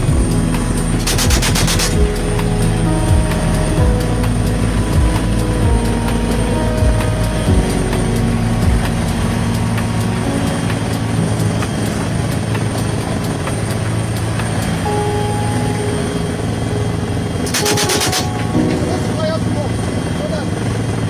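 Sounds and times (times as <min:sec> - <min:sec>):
helicopter rotor beats: 0:00.0 - 0:15.7, 0:16.5 - 0:21.0
helicopter engine drone: 0:00.0 - 0:21.0.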